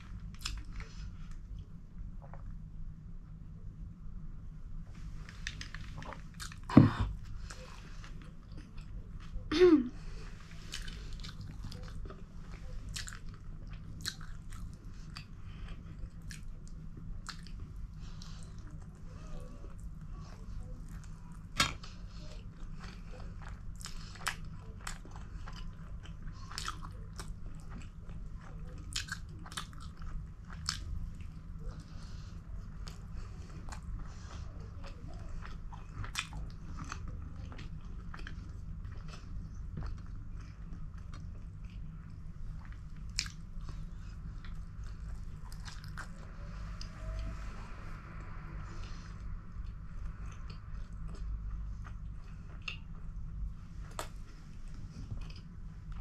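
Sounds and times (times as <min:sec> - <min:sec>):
close chewing and mouth clicks: 0:00.0 - 0:02.6, 0:05.2 - 0:09.4, 0:10.4 - 0:47.3, 0:48.2 - 0:56.0
steady low hum: 0:00.0 - 0:56.0.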